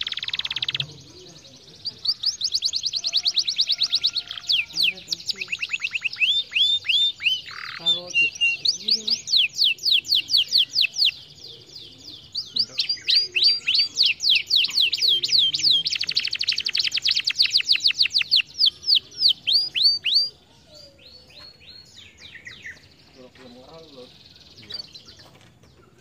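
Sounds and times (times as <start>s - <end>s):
canary singing: 0.0s - 26.0s.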